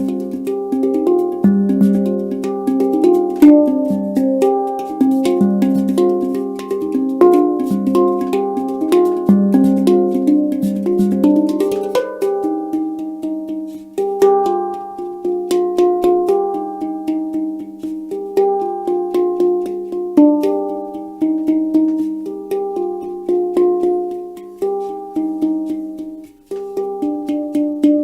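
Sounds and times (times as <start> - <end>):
handpan played by hand: 0.0 - 28.0.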